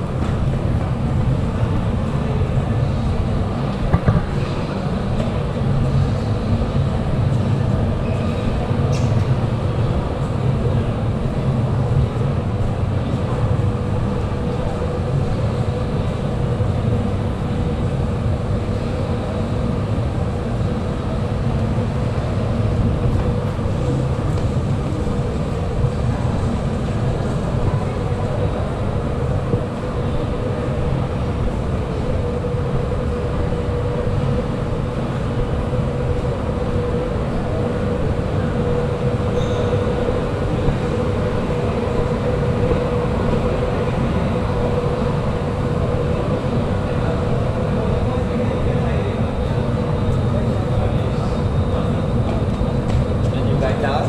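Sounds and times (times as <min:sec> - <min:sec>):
low mechanical rumble: 0:00.0 - 0:54.0
mid-pitched hum: 0:00.0 - 0:54.0.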